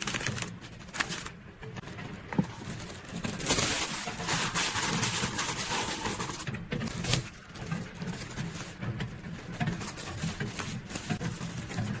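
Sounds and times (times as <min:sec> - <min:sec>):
plastic sleeves crinkling: 0:00.0 - 0:12.0.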